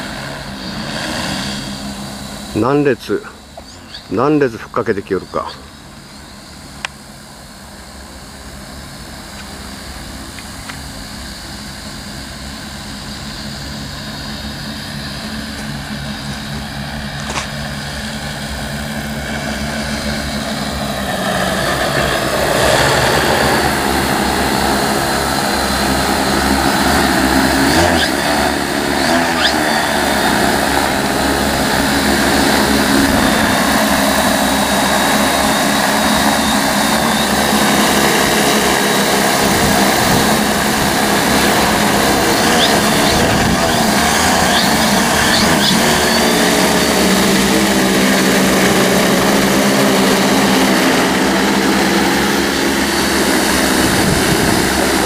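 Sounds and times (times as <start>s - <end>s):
drone rotor hum: 0.0s - 55.0s.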